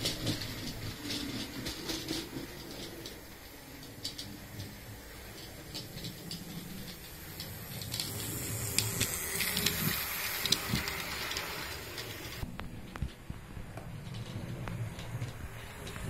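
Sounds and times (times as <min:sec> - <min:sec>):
model train wheels clicking: 0:00.0 - 0:13.1, 0:13.7 - 0:16.0.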